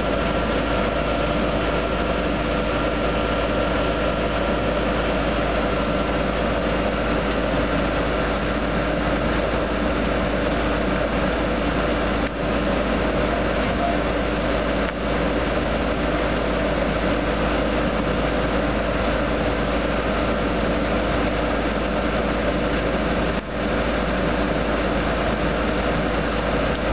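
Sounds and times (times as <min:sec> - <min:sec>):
drilling rig machinery drone: 0:00.0 - 0:26.9.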